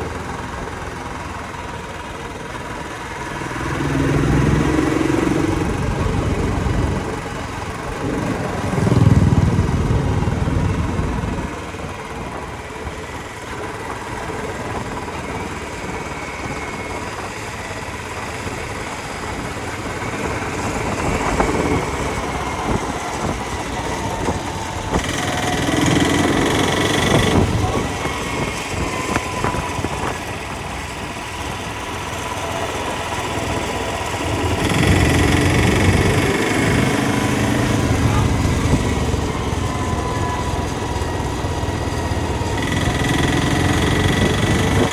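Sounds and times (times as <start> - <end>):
motorcycle engine droning: 0.0 - 44.9.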